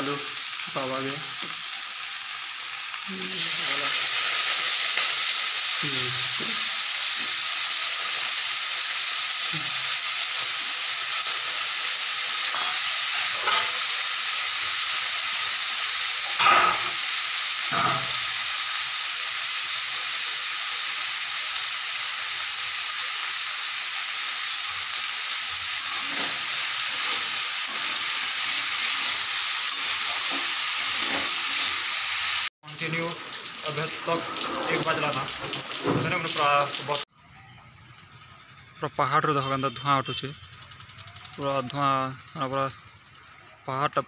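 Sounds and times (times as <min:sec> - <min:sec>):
potatoes sizzling in hot oil: 0:00.0 - 0:37.1.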